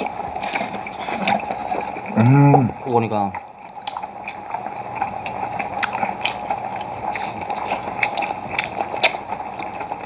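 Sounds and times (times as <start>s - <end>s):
person chewing and slurping: 0.0s - 2.7s, 3.4s - 10.0s
pot bubbling: 0.0s - 10.0s.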